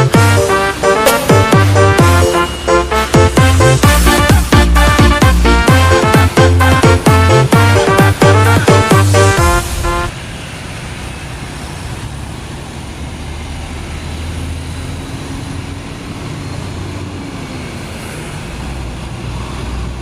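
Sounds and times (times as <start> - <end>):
diesel engine drone: 0.0 - 20.0
road traffic: 0.0 - 20.0.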